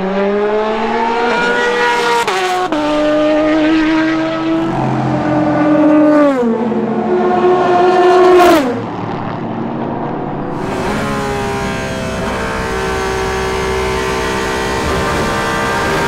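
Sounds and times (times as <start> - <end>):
race car engine from cockpit: 0.0 - 16.0
racing car engines downshifting: 0.0 - 16.0.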